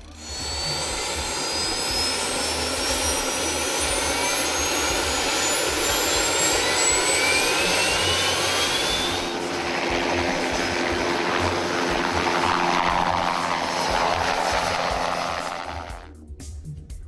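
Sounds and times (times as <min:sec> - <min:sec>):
steady rushing noise: 0:00.0 - 0:16.1
helicopter turbine whine: 0:00.0 - 0:16.4.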